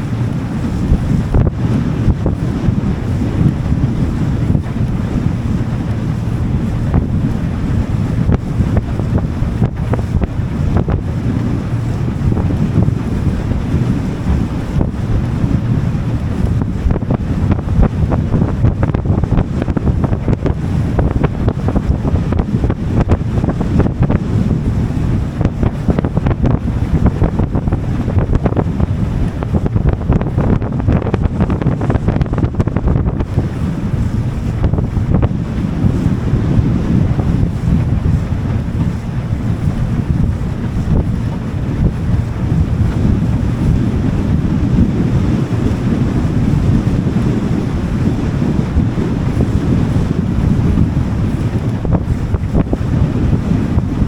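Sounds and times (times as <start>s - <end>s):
boat motor: 0.0s - 54.0s
water rushing: 0.0s - 54.0s
wind buffeting microphone: 0.0s - 54.0s.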